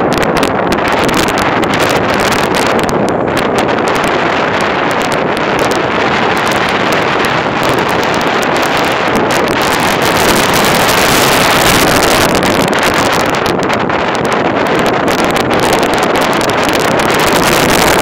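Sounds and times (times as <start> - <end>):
waves breaking against hull: 0.0 - 18.0
wind buffeting microphone: 0.0 - 18.0.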